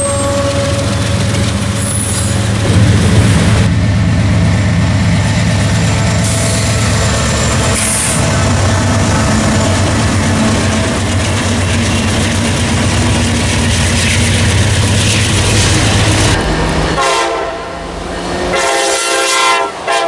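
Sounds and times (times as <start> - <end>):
diesel locomotives rumbling past: 0.0 - 20.0.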